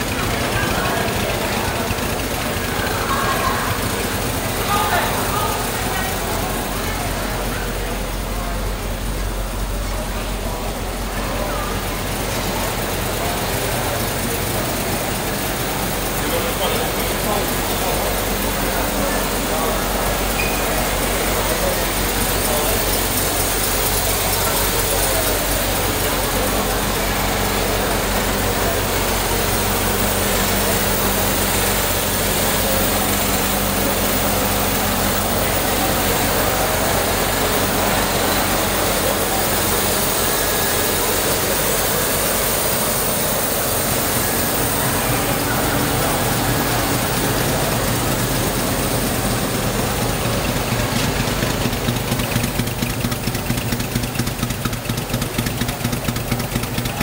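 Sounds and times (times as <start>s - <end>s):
car engine idling: 0.0s - 57.0s
murmur of voices: 0.0s - 57.0s.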